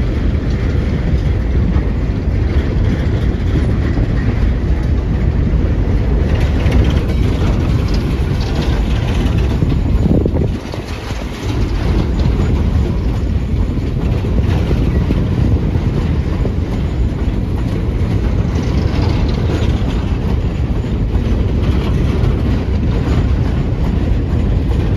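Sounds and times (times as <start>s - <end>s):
freight train rumbling past: 0.0s - 24.9s
wheels clattering over rail: 0.0s - 24.9s.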